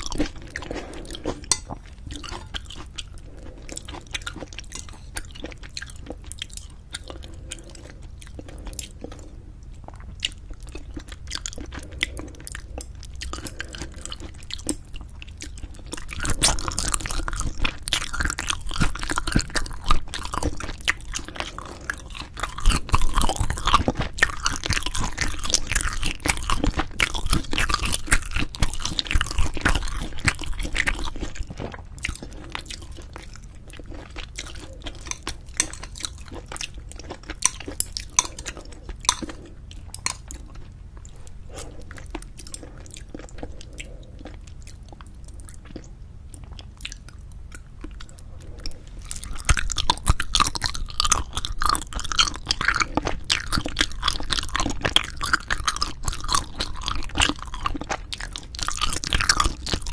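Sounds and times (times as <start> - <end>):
wet chewing and crunching: 0.0 - 59.9.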